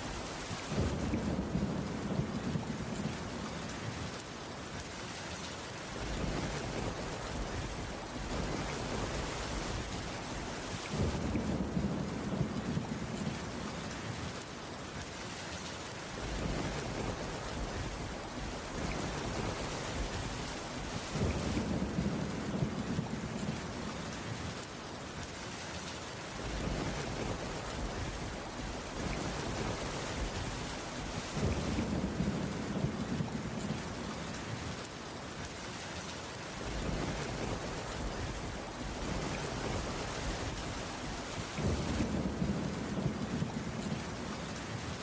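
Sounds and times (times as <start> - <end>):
rain on a wooden roof: 0.0 - 45.0.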